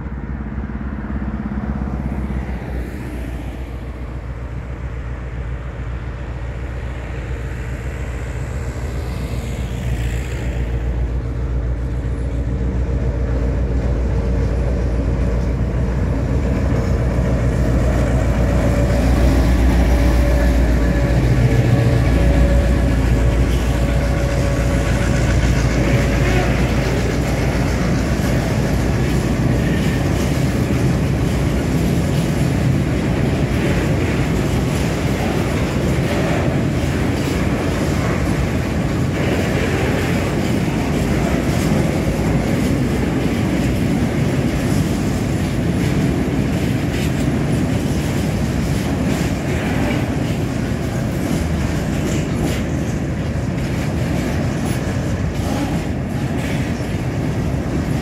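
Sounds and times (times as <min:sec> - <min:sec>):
diesel locomotive engine rumbling: 0:00.0 - 0:58.0
train wheels clattering over rail joints: 0:08.6 - 0:58.0.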